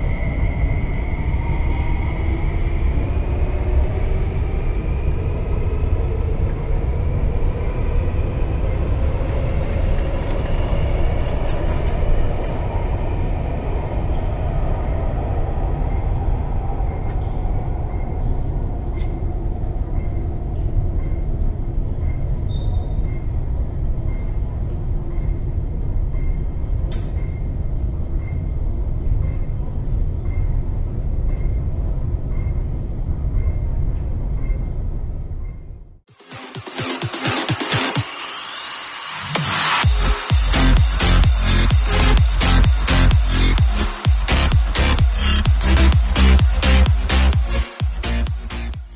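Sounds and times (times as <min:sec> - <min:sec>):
steady low rumble: 0:00.0 - 0:36.1, 0:38.4 - 0:48.9.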